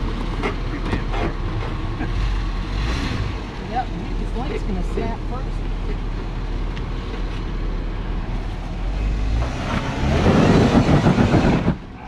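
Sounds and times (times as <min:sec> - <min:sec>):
off-road vehicle engine revving: 0:00.0 - 0:06.8, 0:08.0 - 0:12.0.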